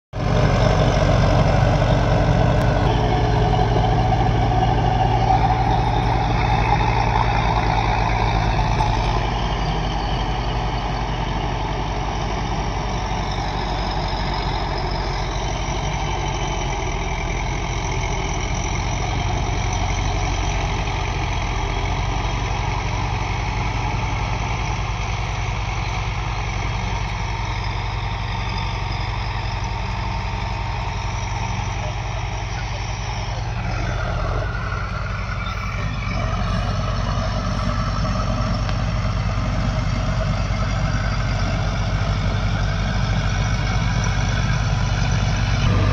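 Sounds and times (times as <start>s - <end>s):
tractor engine running: 0.1s - 45.9s.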